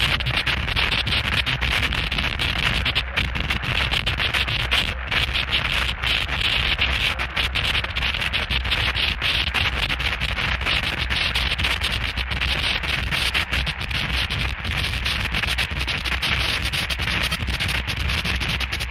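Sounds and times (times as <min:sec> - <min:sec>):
distorted static noise music: 0:00.0 - 0:18.9.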